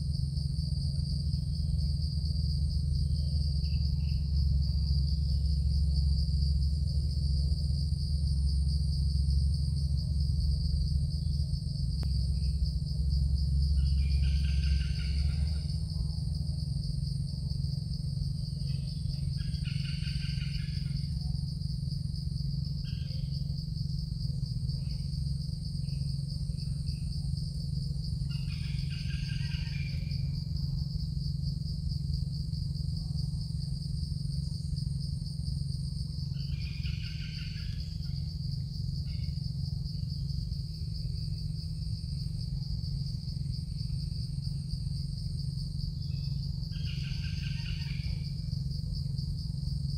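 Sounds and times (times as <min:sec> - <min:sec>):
insect buzzing chorus: 0:00.0 - 0:49.9
steady low hum: 0:00.0 - 0:49.9.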